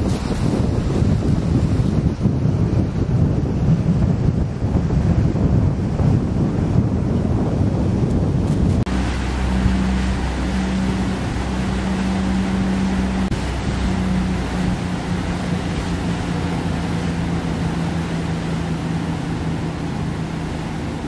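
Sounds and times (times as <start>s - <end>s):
motorboat engine humming: 0.0s - 21.0s
wind on microphone: 0.0s - 21.0s.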